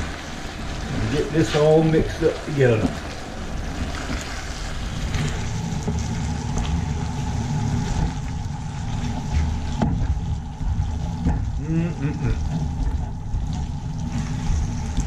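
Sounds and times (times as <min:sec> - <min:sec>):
low rumble: 0:00.0 - 0:15.0
pasta sizzling in skillet: 0:00.0 - 0:15.0.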